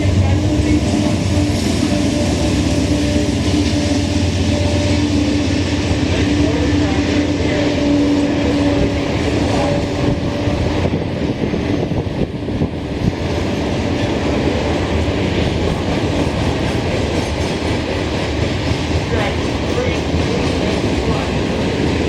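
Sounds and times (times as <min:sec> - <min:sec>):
locomotive hum: 0:00.0 - 0:22.0
train wheels rolling on rails: 0:00.0 - 0:22.0.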